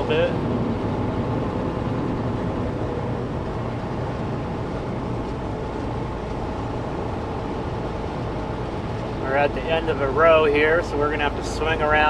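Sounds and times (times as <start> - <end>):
diesel truck engine rumble: 0.0 - 12.0.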